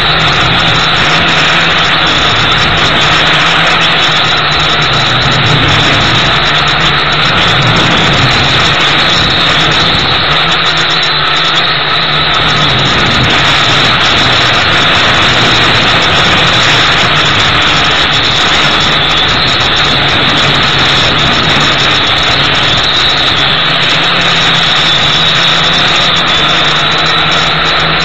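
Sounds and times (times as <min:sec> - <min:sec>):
drone propellers buzzing: 0:00.0 - 0:28.0.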